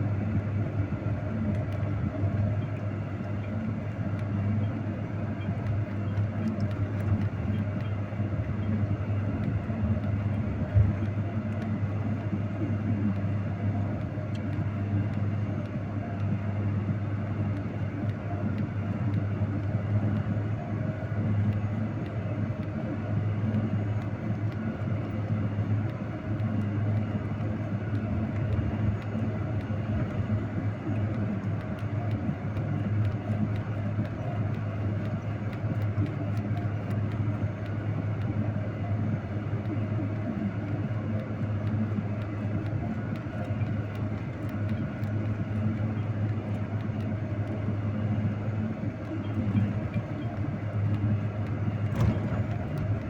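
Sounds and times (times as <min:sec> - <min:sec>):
road noise: 0:00.0 - 0:53.0
vehicle engine droning: 0:00.0 - 0:53.0.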